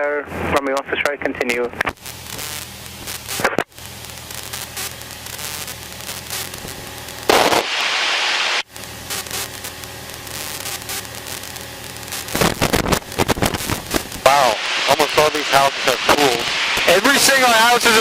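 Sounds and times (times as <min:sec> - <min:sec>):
crackling static: 0:00.0 - 0:18.0
loud radio static hiss: 0:00.0 - 0:18.0.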